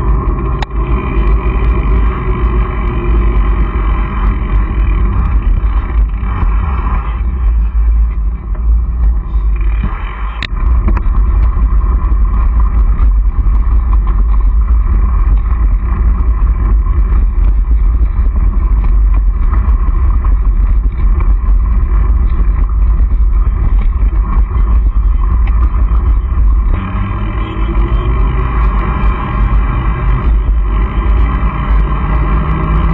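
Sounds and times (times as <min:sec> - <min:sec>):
bike rattles and clicks: 0:00.0 - 0:32.9
tyres rumbling over dirt: 0:00.0 - 0:32.9
wind on microphone: 0:00.0 - 0:32.9.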